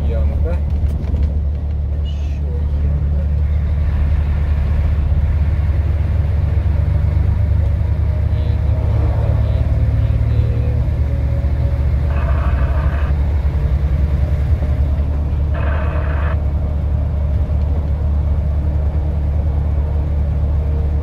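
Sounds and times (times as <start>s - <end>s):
truck engine rumble: 0.0s - 21.0s.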